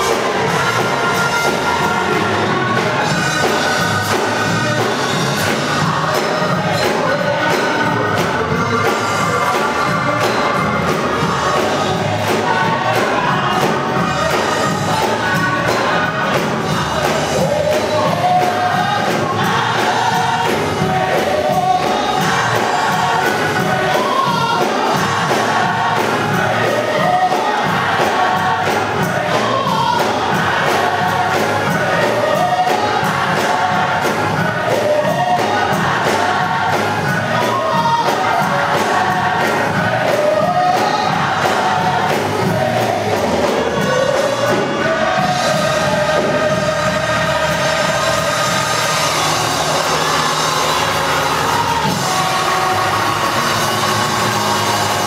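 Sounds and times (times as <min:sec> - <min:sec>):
gospel choir singing: 0:00.0 - 0:55.0
musical accompaniment: 0:00.0 - 0:55.0.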